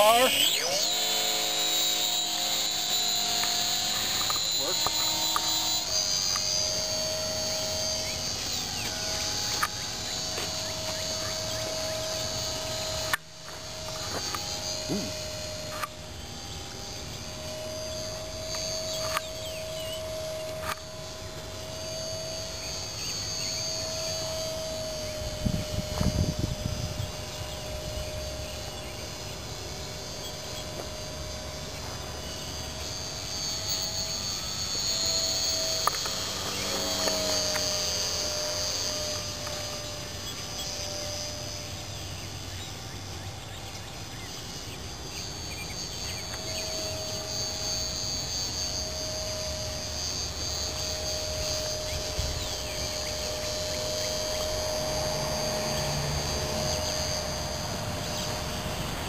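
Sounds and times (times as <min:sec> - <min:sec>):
model airplane motor droning: 0:00.0 - 0:59.0.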